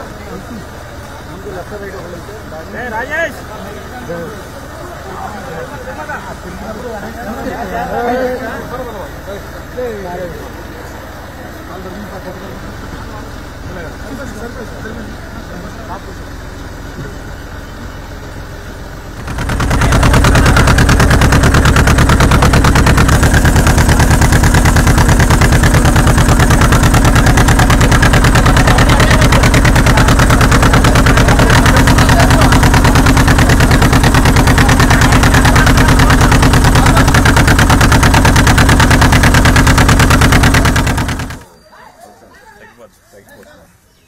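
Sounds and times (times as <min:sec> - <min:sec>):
boat motor throbbing: 0:00.0 - 0:41.5.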